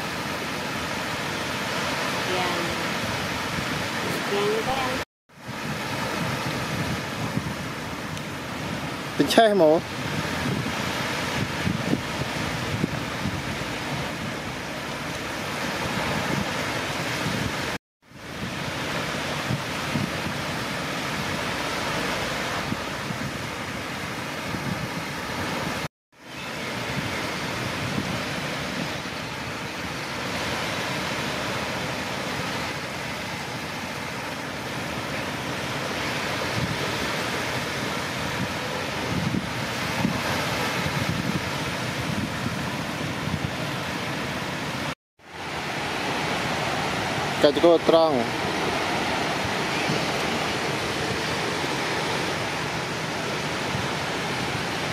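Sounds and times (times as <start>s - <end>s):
surf breaking on beach: 0.0s - 54.9s
wind buffeting microphone: 0.0s - 54.9s.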